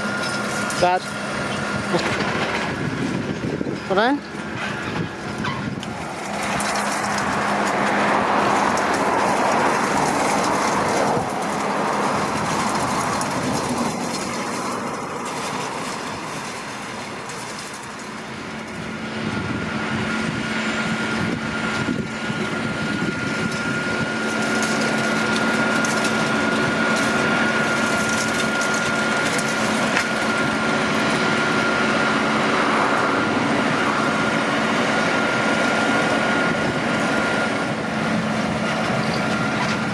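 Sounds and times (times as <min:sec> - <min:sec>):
high mechanical whine: 0:00.0 - 0:39.9
tractor rumbling and rattling: 0:00.0 - 0:39.9.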